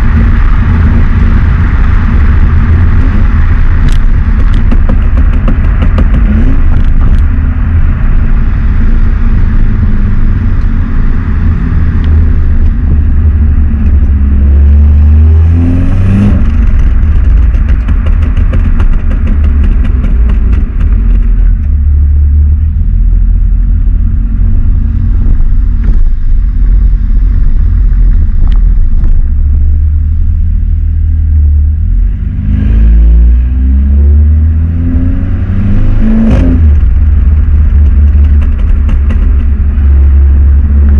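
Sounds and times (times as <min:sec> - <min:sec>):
car exhaust low rumble: 0:00.0 - 0:40.9
exhaust crackles: 0:00.0 - 0:40.9.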